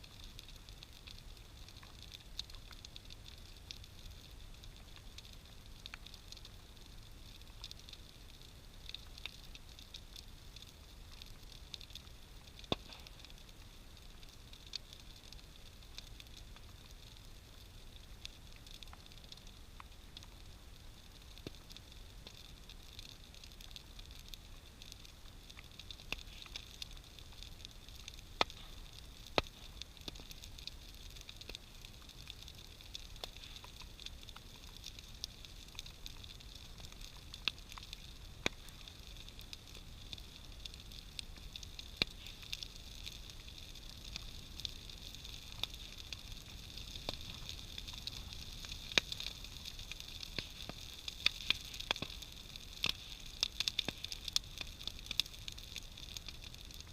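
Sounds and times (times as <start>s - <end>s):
bonfire hissing: 0.0s - 56.9s
fire popping and cracking: 0.0s - 56.9s.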